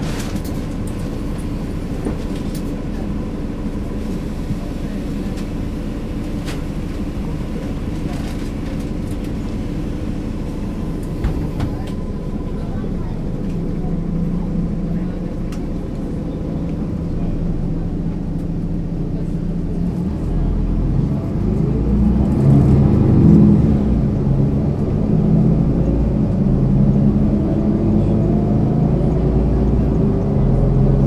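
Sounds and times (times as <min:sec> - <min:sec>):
bus diesel engine: 0:00.0 - 0:31.0.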